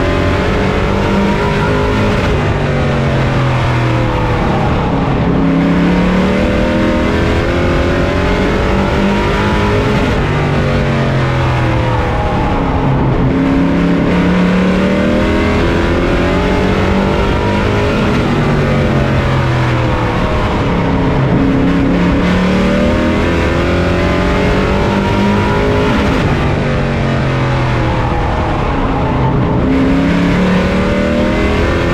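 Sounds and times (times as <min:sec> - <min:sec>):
racing truck engine: 0:00.0 - 0:31.9.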